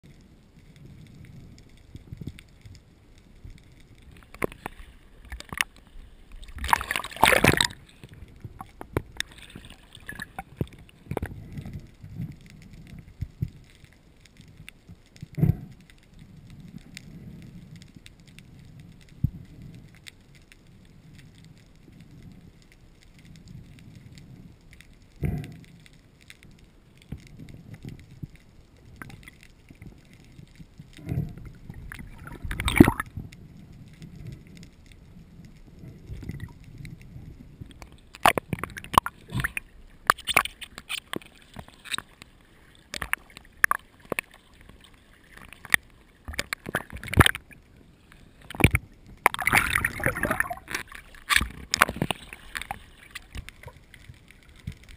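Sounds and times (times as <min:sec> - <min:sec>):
low underwater rumble: 0:00.0 - 0:54.9
sharp knocks and clicks underwater: 0:00.0 - 0:54.9.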